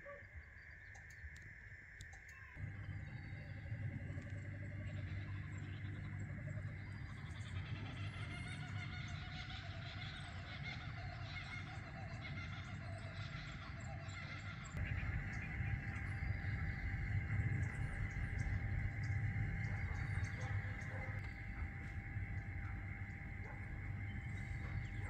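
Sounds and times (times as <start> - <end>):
birds calling and chirping: 0.0 - 25.0
high-pitched drone: 2.2 - 25.0
low rumble: 2.6 - 25.0.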